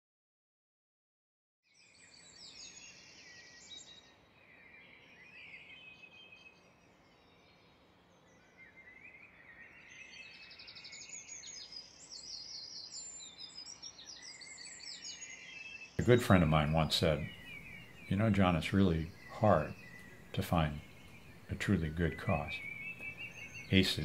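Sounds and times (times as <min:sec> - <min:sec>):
songbirds chirping and trilling: 0:01.7 - 0:24.0
faint background hiss: 0:01.9 - 0:24.0.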